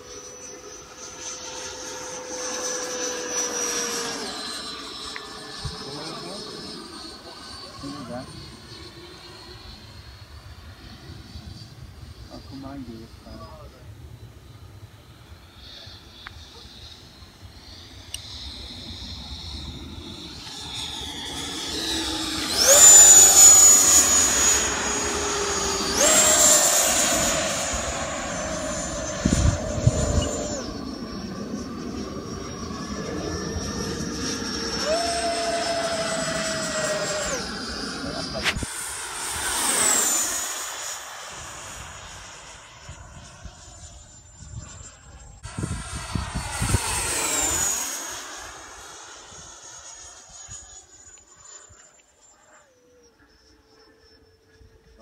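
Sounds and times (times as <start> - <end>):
model jets whining flying by: 0.0 - 55.0.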